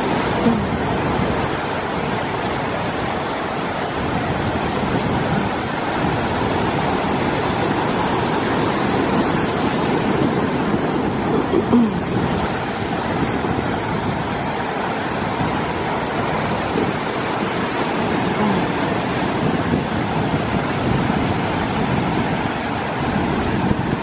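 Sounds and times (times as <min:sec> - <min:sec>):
waves breaking on rocks: 0:00.0 - 0:24.0.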